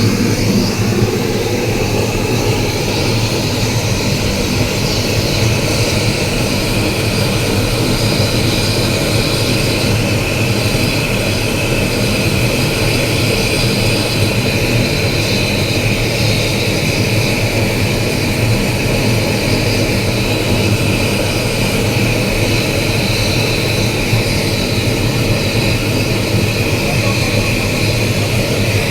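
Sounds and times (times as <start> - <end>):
kiln firebox roaring: 0.0 - 28.9.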